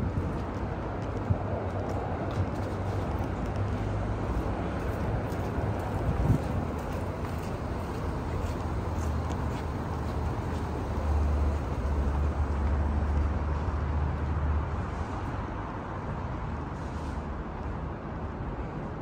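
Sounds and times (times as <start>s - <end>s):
distant traffic hum: 0.0s - 19.0s.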